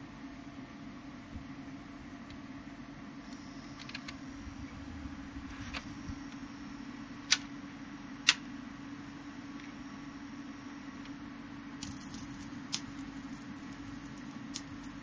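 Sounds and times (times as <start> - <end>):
turntable mechanism humming: 0.0 - 15.0.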